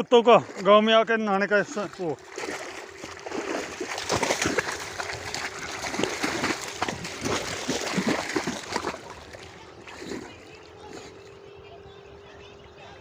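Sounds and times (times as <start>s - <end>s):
water splashing and sloshing: 0.0s - 11.4s.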